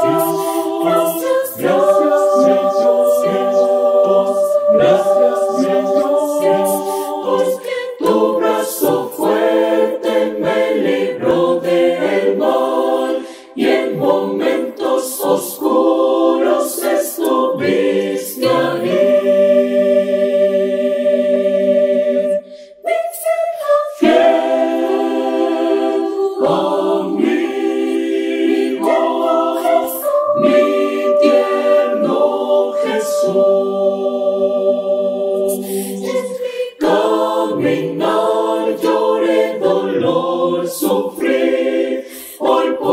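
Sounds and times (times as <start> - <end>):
choir singing a cappella: 0.0 - 42.9.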